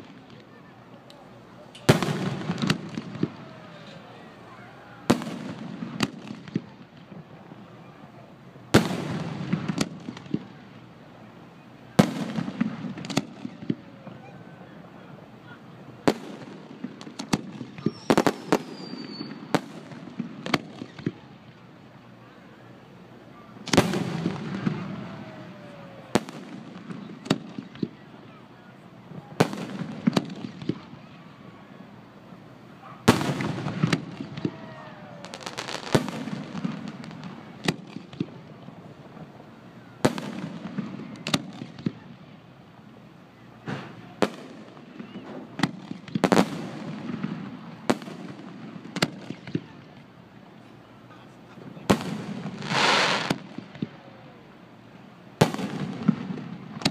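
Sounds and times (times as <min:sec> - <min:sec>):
firework crackling: 0:00.0 - 0:56.9.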